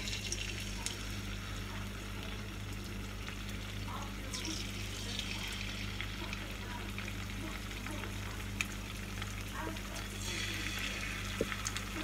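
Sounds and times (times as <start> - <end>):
chicken frying in hot oil: 0.0 - 12.0
low steady hum: 0.0 - 12.0.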